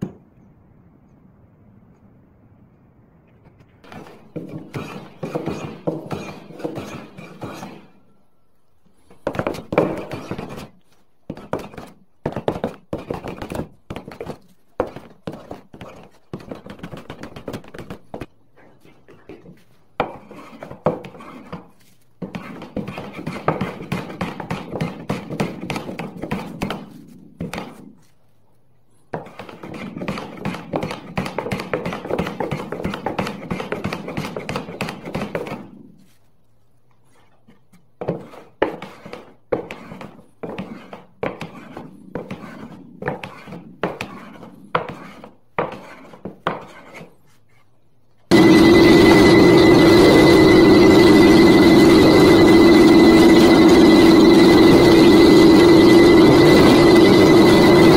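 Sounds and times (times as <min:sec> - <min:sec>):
tool scraping wood: 0:03.8 - 0:08.1, 0:09.0 - 0:28.2, 0:29.1 - 0:36.3, 0:36.9 - 0:57.9.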